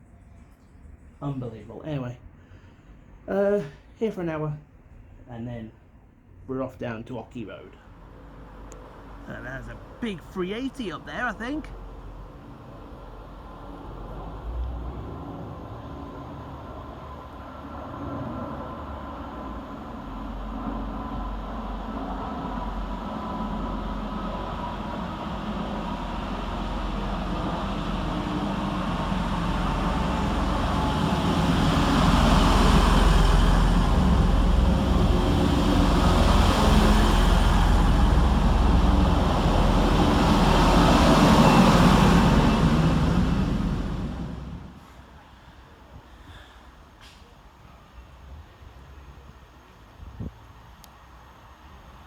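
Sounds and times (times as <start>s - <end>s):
train rumbling through station: 0.0s - 52.0s.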